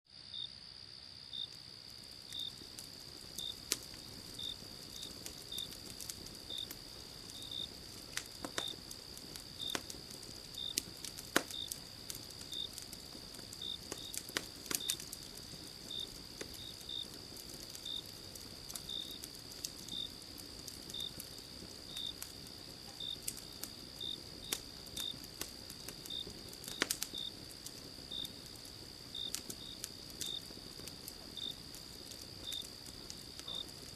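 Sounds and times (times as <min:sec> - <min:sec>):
crickets trilling: 0:00.1 - 0:33.9
insect chirping: 0:00.1 - 0:33.9
wood fire crackling: 0:01.2 - 0:33.9.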